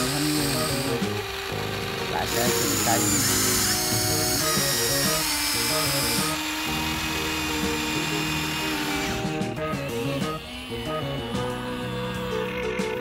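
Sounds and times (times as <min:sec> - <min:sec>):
simple electronic melody: 0:00.0 - 0:13.0
toy electric motor whirring: 0:00.0 - 0:13.0.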